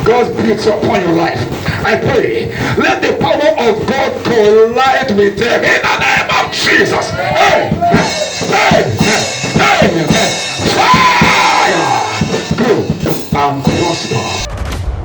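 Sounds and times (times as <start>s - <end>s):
drum kit playing: 0.0s - 14.5s
loud unclear voices: 0.0s - 14.5s.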